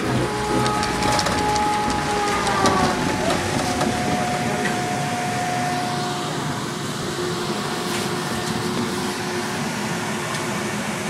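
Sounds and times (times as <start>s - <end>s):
faint whining tones: 0.0s - 10.5s
lift machinery hum: 0.0s - 11.0s.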